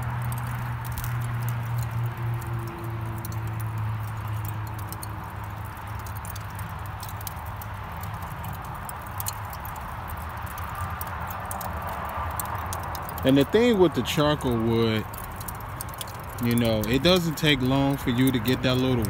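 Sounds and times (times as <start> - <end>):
charcoal crackling and popping: 0.0 - 19.0.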